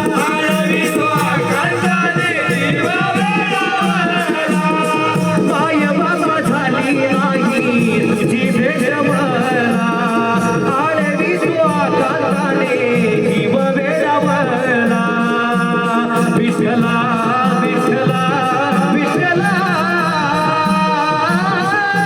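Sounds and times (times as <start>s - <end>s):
person singing with vibrato: 0.0s - 22.0s
repeating drum rhythm: 0.0s - 22.0s.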